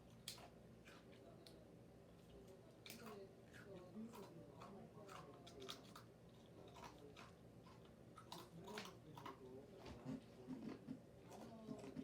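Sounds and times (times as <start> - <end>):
crisp chewing crunches: 2.2 - 12.0.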